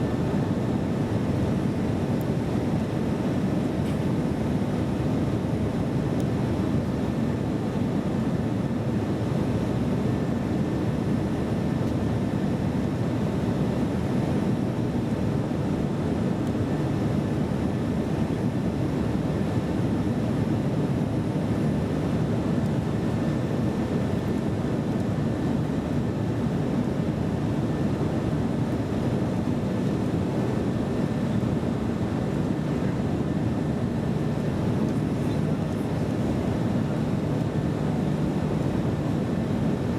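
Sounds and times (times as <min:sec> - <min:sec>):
faint steady hum: 0:00.0 - 0:39.9
jet airliner cabin drone: 0:00.0 - 0:39.9.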